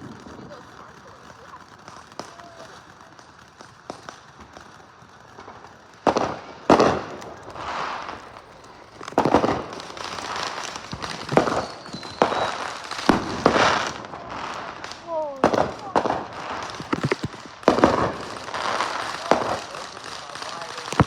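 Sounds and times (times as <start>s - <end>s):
fireworks bangs: 0.0s - 21.0s
fireworks crackling and hissing: 0.0s - 21.0s.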